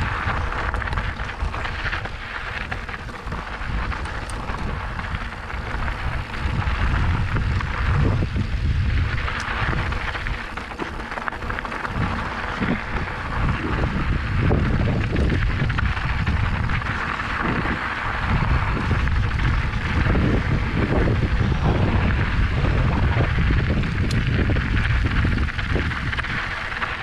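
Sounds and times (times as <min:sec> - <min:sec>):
bike knocks and rattles: 0:00.0 - 0:27.0
tyres rolling over dirt and rock: 0:00.0 - 0:27.0
wind on microphone: 0:00.0 - 0:27.0.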